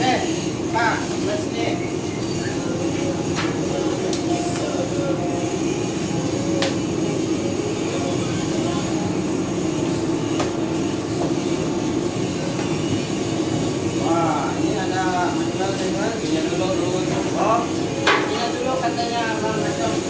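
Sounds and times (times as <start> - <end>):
ship machinery drone: 0.0 - 18.0.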